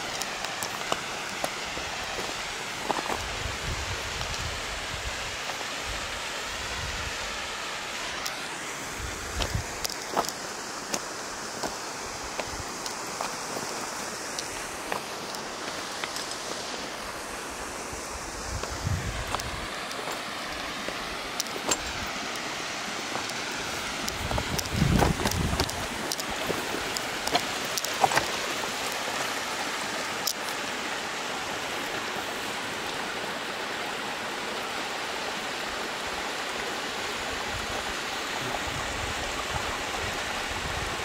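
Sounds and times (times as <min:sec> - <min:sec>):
waterfall rushing over rocks: 0:00.0 - 0:41.0.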